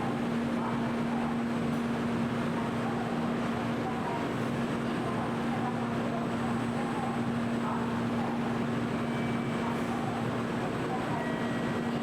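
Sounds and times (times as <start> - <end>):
faint indistinct voices: 2.4 - 12.0.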